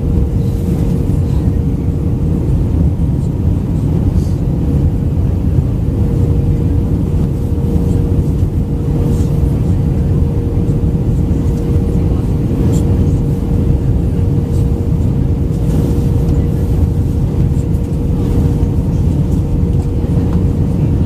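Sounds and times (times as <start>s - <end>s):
aircraft engines and airflow rush: 0.0s - 21.0s
constant hum tone: 0.0s - 21.0s.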